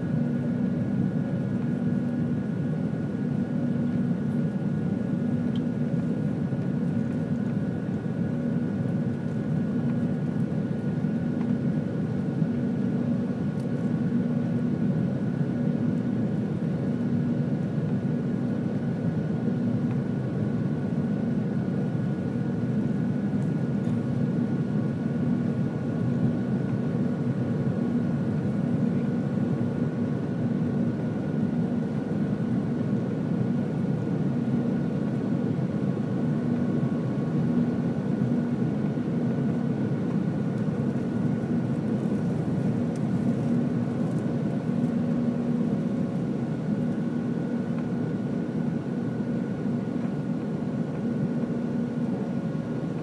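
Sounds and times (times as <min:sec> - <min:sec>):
airplane cabin drone: 0:00.0 - 0:53.0.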